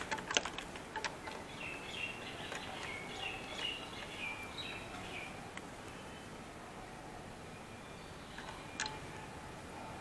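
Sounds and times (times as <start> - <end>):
birds chirping: 0.0 - 10.0
steady background hiss: 0.0 - 10.0.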